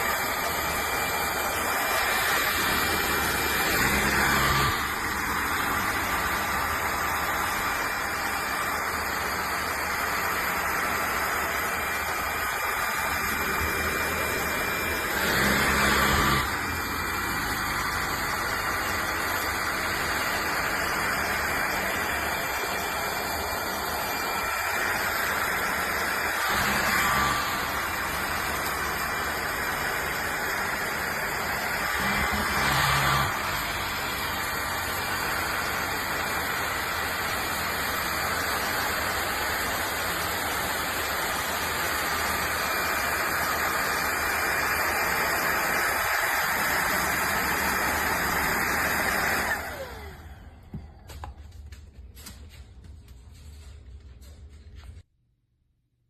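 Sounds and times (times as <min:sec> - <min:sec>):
stick vacuum whooshing hum: 0:00.0 - 0:53.1.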